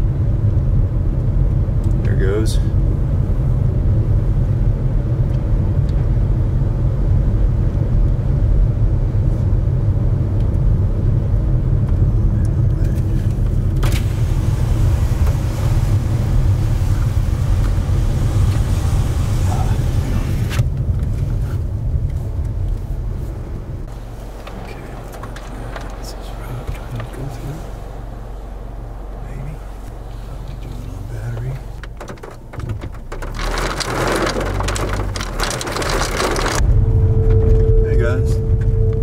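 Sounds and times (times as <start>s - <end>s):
vehicle engine rumbling: 0.0s - 39.0s.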